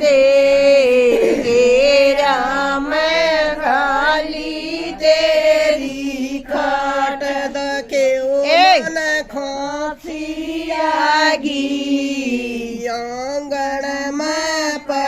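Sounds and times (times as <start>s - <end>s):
women singing folk song: 0.0s - 15.0s.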